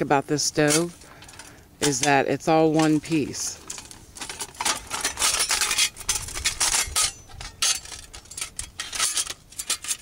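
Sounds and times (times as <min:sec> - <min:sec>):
metal stove parts clinking: 0:00.6 - 0:10.0.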